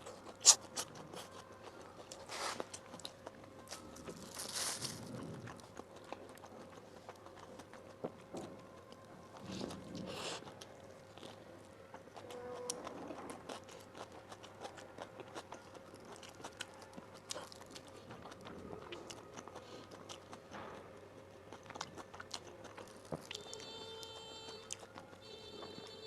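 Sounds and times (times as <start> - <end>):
person chewing and crunching: 0.0 - 26.0.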